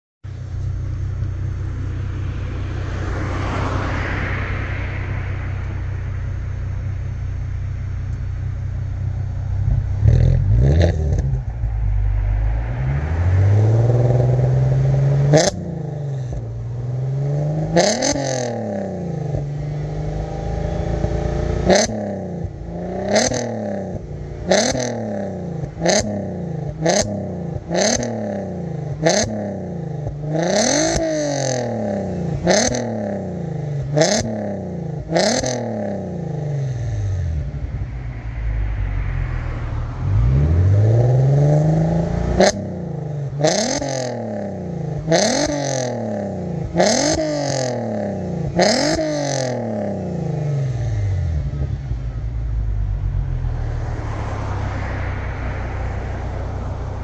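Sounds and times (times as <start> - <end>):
car engine idling and revving: 0.2 - 57.0.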